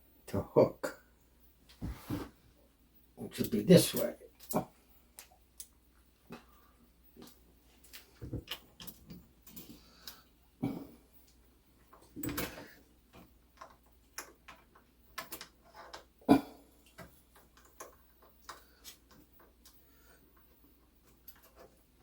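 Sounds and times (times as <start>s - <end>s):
small clicks and knocks of metal parts: 3.4s - 10.4s, 11.2s - 22.0s.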